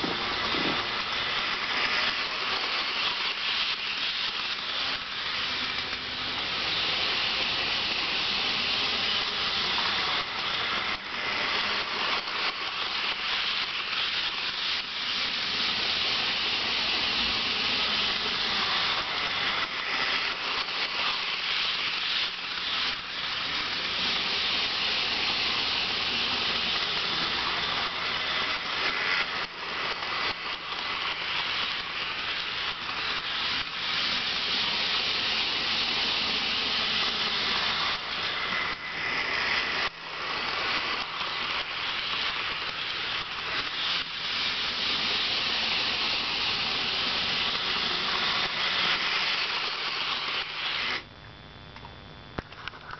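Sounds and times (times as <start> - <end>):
model train wheels hissing on rails: 0.0 - 51.1.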